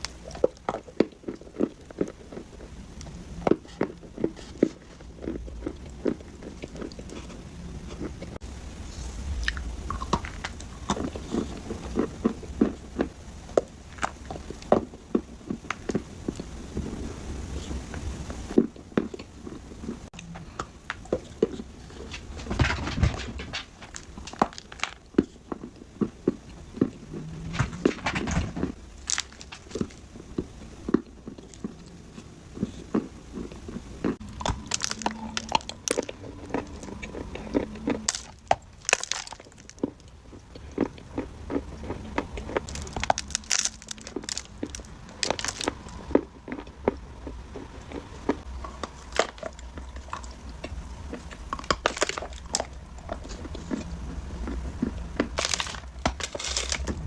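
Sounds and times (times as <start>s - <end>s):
dry clay crunching when chewed: 0.0s - 8.4s, 9.0s - 17.8s, 18.6s - 57.0s.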